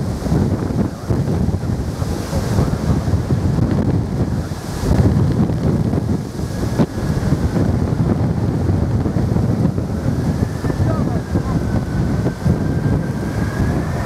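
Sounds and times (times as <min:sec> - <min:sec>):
jet engines: 0:00.0 - 0:14.0
wind buffeting microphone: 0:00.0 - 0:14.0.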